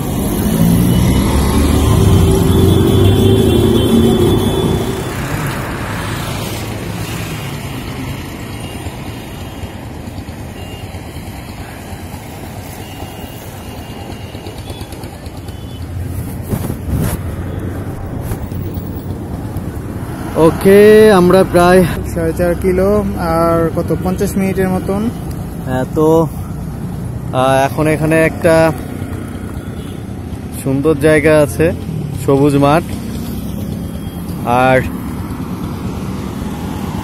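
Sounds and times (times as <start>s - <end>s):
road traffic noise: 0.0s - 37.0s
vehicle engine close by: 0.0s - 37.0s.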